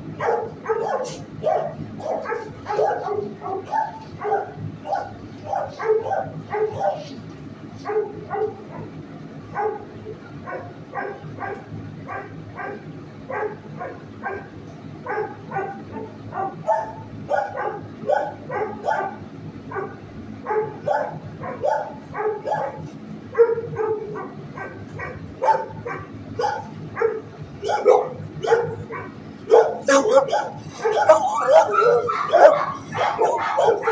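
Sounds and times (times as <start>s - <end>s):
dogs barking: 0.0s - 33.9s
steady low hum: 0.0s - 33.9s.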